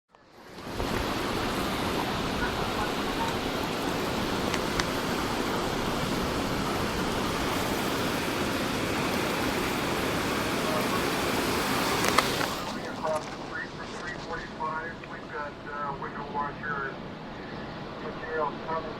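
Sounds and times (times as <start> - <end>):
heavy rain and wind: 0.3 - 18.9.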